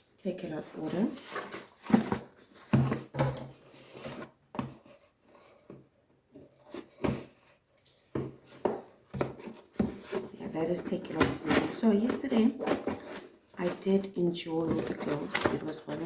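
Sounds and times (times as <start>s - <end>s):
packaging rustling and scraping: 0.5s - 16.0s
package being handled and opened: 0.6s - 5.7s, 6.6s - 16.0s.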